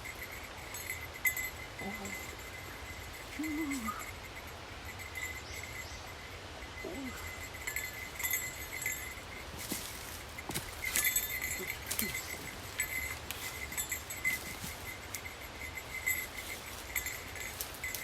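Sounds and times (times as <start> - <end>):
insect trilling: 1.8 - 9.5, 10.2 - 18.0.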